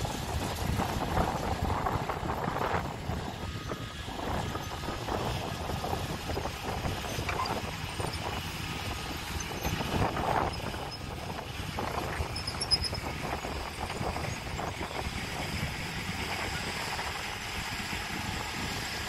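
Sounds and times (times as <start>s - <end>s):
dump truck engine rumbling: 0.0s - 19.0s.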